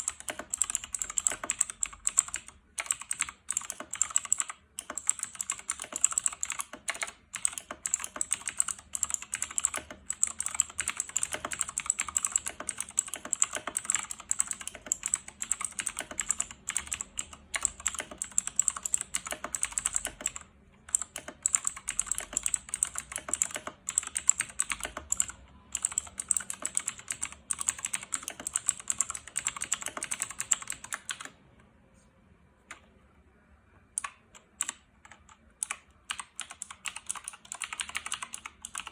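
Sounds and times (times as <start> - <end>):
fast typing on mechanical keyboard: 0.0 - 31.4, 34.0 - 38.9.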